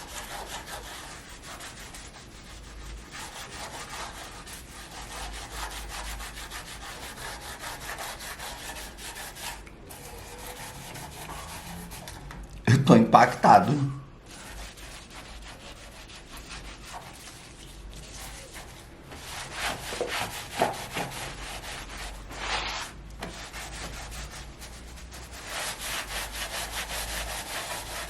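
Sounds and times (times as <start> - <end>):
salt scrubbing against metal: 0.0 - 12.3, 13.5 - 28.0.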